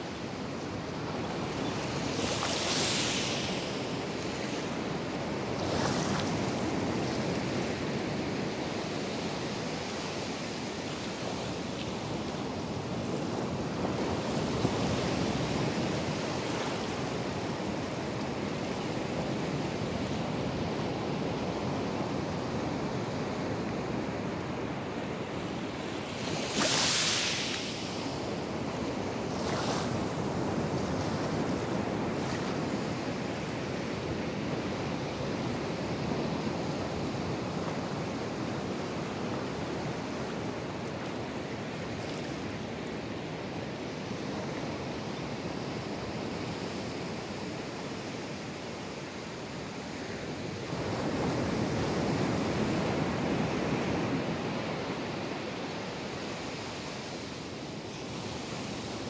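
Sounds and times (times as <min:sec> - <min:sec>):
waves breaking on beach: 0:00.0 - 0:19.1, 0:19.7 - 0:59.0.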